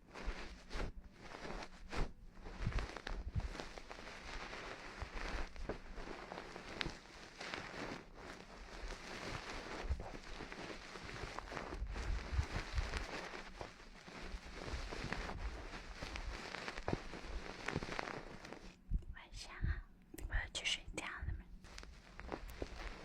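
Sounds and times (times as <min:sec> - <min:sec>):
steady crackle: 0:00.0 - 0:23.0.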